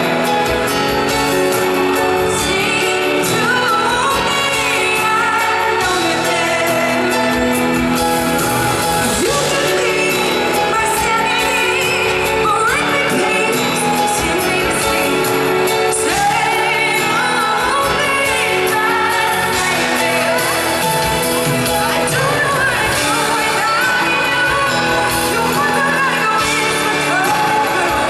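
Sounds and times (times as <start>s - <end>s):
band accompaniment: 0.0s - 28.0s
woman singing a pop ballad: 0.0s - 28.0s.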